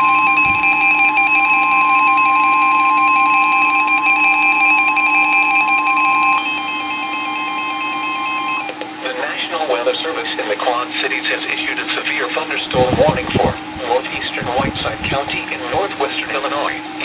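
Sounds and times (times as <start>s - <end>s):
steady loud alarm tone: 0.0s - 17.0s.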